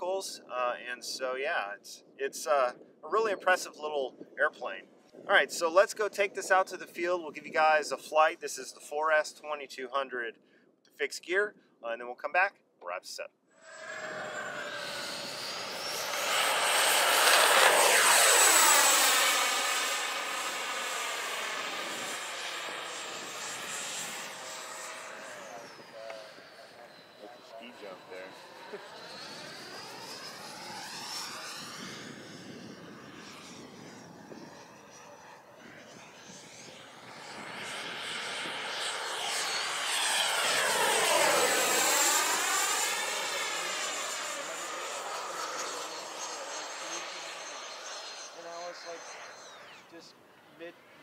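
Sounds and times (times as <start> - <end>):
model jet whine in flight: 0.0 - 9.7, 13.5 - 51.0.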